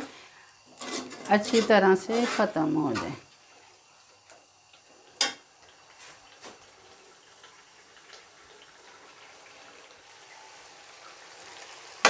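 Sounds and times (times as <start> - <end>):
faint frying hiss: 0.0 - 12.0.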